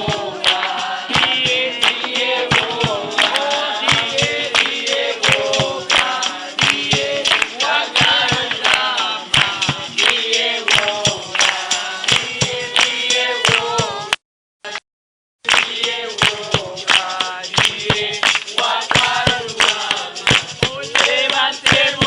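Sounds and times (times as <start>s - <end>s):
rhythmic hand clapping: 0.0s - 14.8s, 15.4s - 22.0s
voices singing together: 0.0s - 14.8s, 15.4s - 22.0s.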